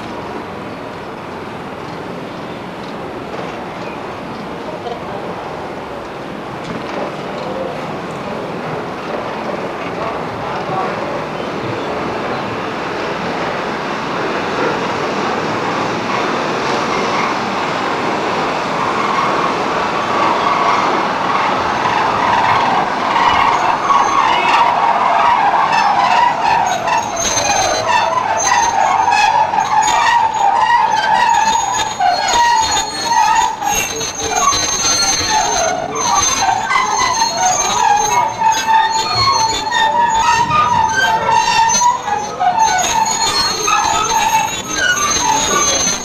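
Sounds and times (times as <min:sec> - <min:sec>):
freight train wagons rolling on track: 0:00.0 - 0:46.0
train wheels squealing: 0:09.1 - 0:46.0.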